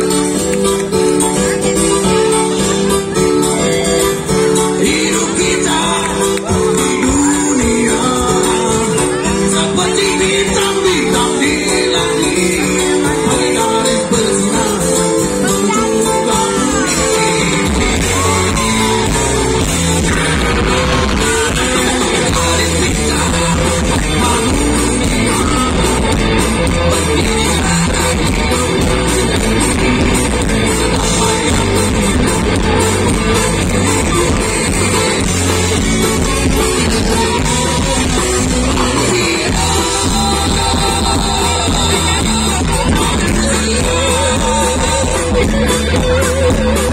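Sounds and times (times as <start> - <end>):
live rock band playing: 0.0 - 46.9
person singing: 0.0 - 46.9.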